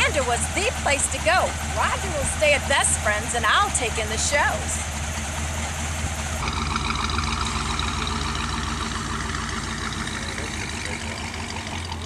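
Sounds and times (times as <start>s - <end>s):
car engine driving off: 0.0s - 12.0s.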